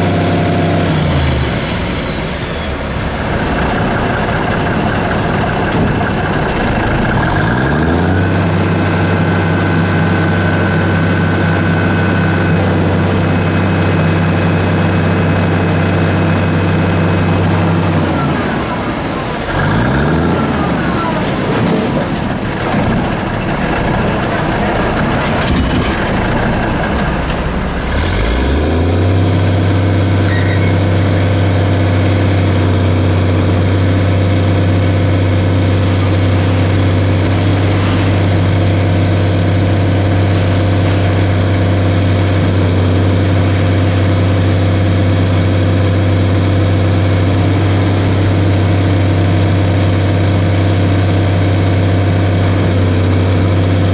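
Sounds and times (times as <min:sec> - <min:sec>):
heavy diesel engine: 0:00.0 - 0:53.9.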